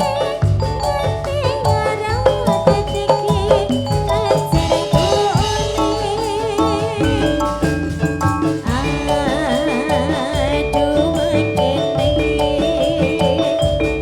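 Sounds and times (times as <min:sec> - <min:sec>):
heavy bass: 0:00.0 - 0:14.0
held keyboard-like notes: 0:00.0 - 0:14.0
percussion strikes: 0:00.0 - 0:14.0
wavering vibrato melody: 0:00.0 - 0:14.0.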